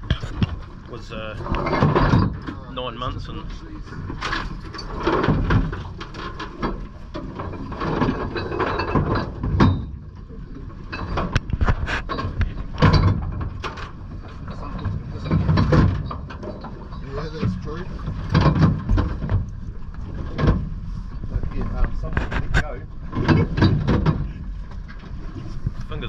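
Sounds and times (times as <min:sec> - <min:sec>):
gear clunking and clattering: 0:00.0 - 0:26.0.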